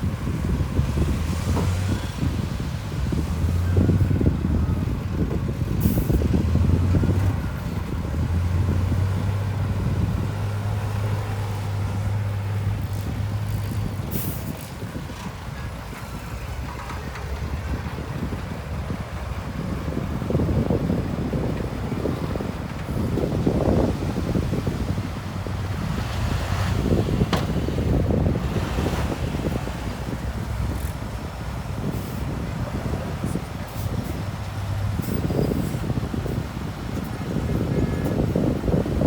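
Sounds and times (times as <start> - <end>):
heavy diesel engine droning: 0.0 - 39.0.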